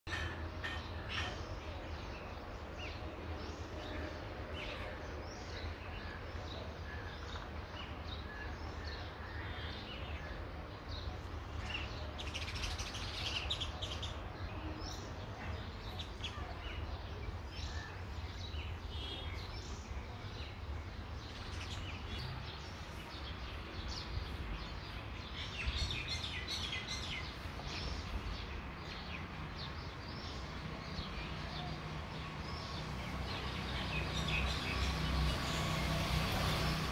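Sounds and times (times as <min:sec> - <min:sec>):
small birds chirping: 0:00.1 - 0:36.9.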